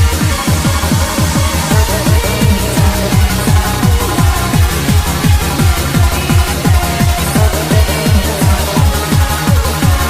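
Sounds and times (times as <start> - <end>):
electronic dance music: 0.0 - 10.0
fast pitch-dropping kick drum: 0.0 - 10.0
layered synths: 0.0 - 10.0.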